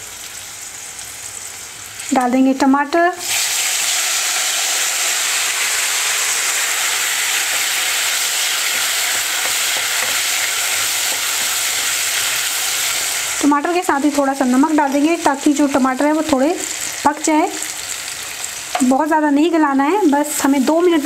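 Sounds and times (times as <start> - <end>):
hot oil sizzling loudly: 0.0 - 21.0.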